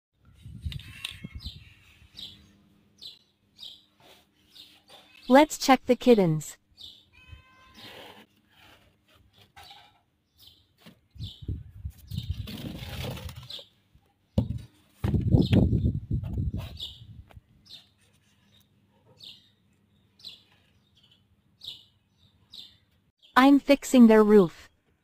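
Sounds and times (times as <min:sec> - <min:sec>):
small birds chirping: 0:00.4 - 0:24.5.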